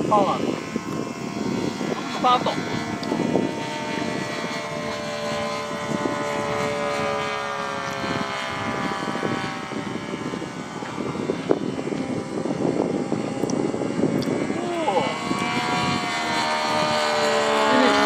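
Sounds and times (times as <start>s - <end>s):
model airplane motor buzzing: 0.0s - 18.0s
wind noise: 0.0s - 18.0s.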